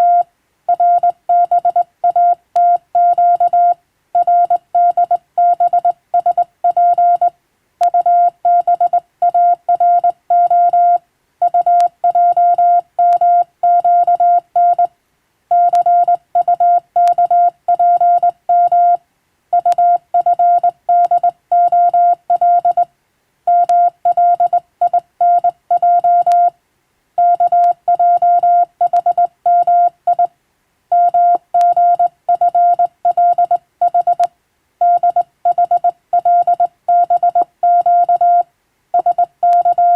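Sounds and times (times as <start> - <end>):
morse code beeps: 0.0 - 14.9, 15.5 - 19.0, 19.6 - 22.9, 23.5 - 26.5, 27.2 - 30.3, 30.9 - 38.4, 39.0 - 39.9.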